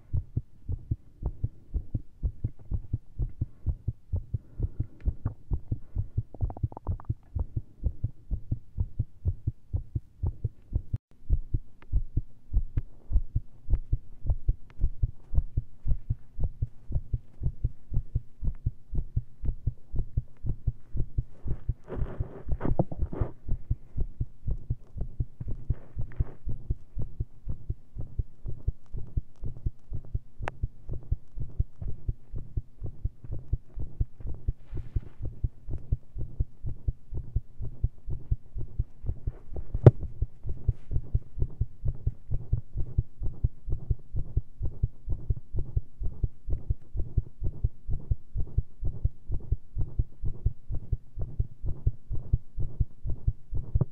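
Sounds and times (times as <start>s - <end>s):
heartbeat through a stethoscope: 0.0s - 53.9s.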